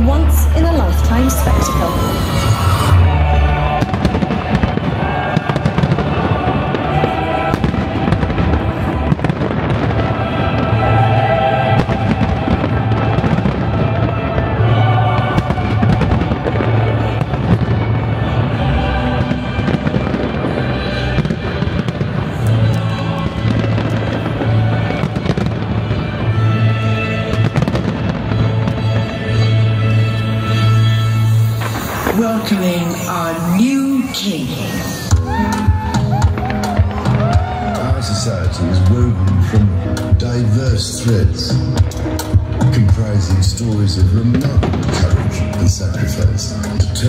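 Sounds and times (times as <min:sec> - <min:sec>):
fireworks cracking and banging: 0:00.0 - 0:47.0
music playing: 0:00.0 - 0:47.0.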